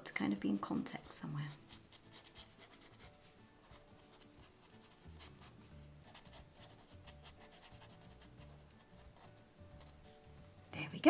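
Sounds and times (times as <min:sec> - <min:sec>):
pen scratching on paper: 0:00.3 - 0:10.2.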